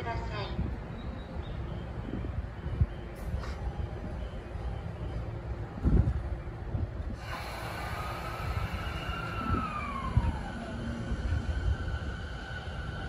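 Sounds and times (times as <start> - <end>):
electric train inverter whining: 0.0 - 13.0
low train rumble: 0.0 - 13.0.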